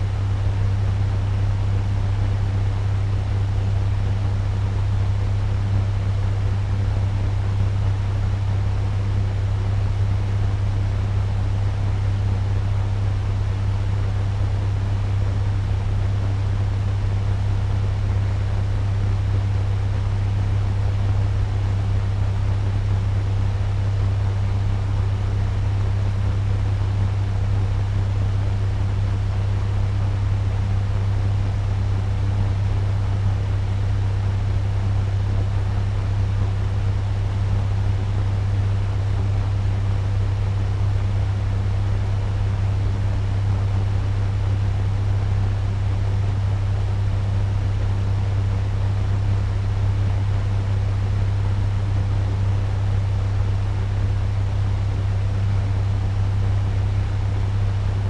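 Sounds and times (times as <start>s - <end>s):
fan running: 0.0s - 58.0s.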